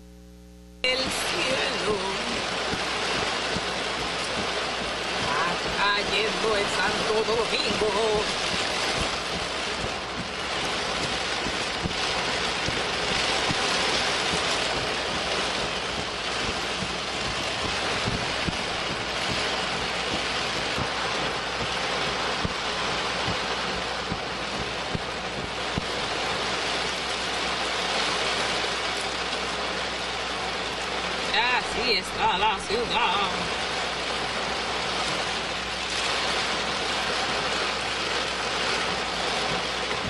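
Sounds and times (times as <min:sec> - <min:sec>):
heavy rain on a car: 0:00.8 - 0:40.0
raindrop taps: 0:00.9 - 0:40.0.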